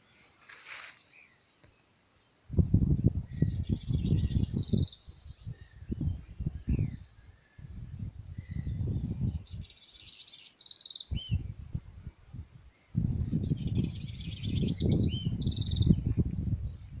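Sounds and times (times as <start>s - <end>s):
songbird singing with trill: 1.1s - 11.6s, 12.3s - 17.0s.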